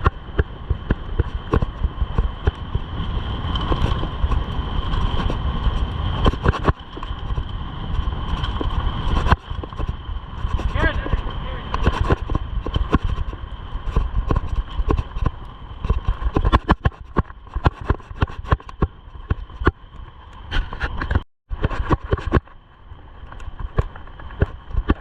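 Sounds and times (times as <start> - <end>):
bicycle rattling and knocking: 0.0 - 25.0
wind rumble on microphone: 0.0 - 25.0.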